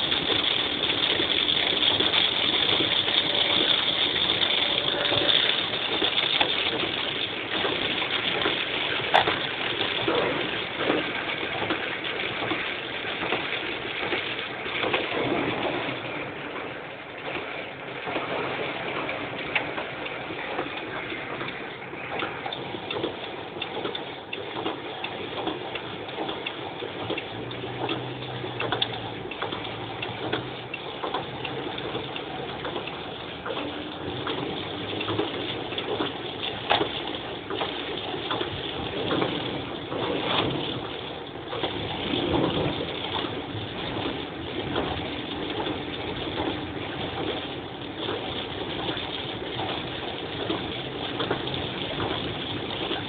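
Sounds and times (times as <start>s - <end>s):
heavy rain on car roof: 0.0s - 53.0s
raindrops ticking on windscreen: 0.0s - 53.0s
water gushing under tyres: 0.0s - 53.0s.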